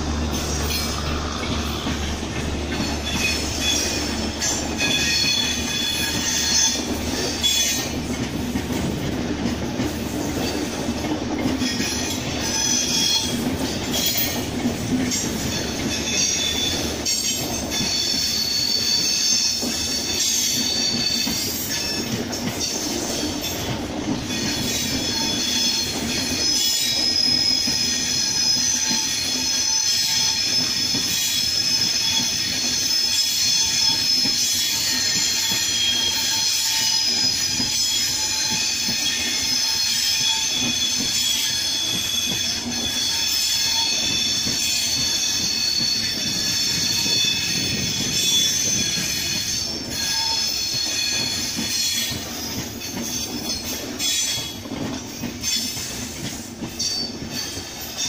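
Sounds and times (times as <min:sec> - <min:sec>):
high wheel squeal: 0:00.0 - 0:08.1, 0:11.6 - 0:14.5, 0:15.1 - 0:58.0
train wheels rumbling over track: 0:00.0 - 0:58.0.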